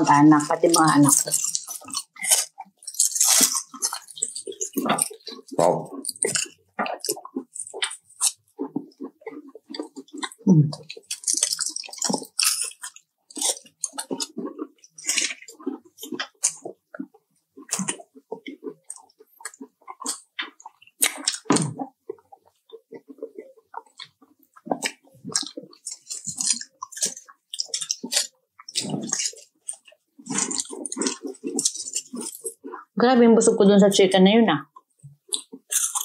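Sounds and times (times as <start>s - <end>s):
chewing and wet mouth sounds: 0.0s - 36.0s.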